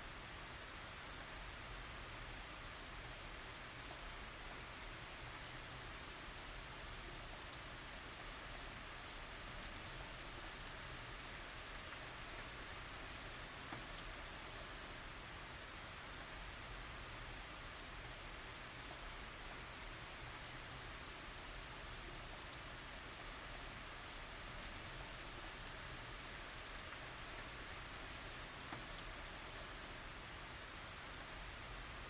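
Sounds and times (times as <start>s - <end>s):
steady rain falling: 0.0s - 32.0s
raindrops ticking on surfaces: 0.1s - 32.0s.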